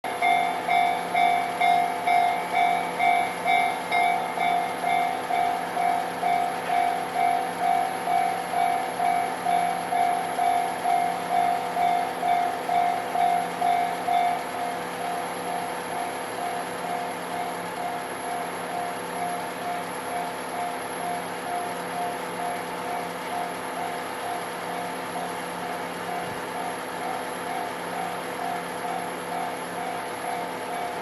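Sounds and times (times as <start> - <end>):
level crossing warning bell: 0.0 - 31.0.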